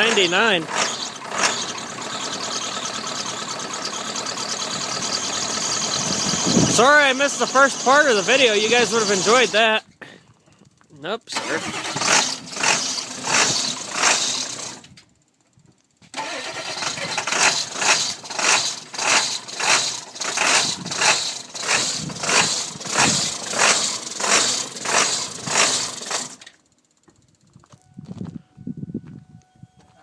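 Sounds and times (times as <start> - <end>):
diesel engine cranking: 0.0 - 27.9.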